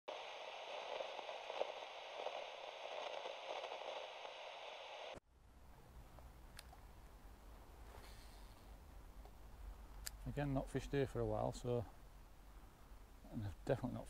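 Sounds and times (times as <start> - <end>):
steady rushing hiss: 0.1 - 5.7, 7.0 - 14.0.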